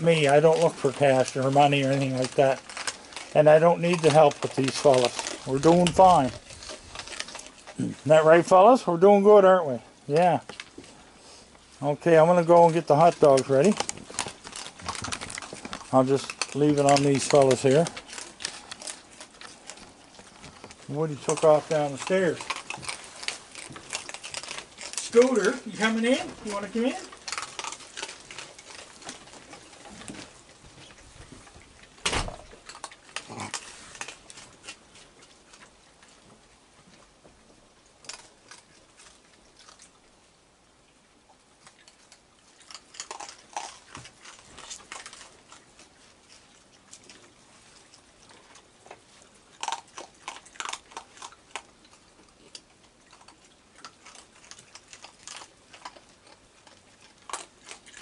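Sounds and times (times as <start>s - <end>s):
raccoons crunching dry food: 0.0s - 58.0s.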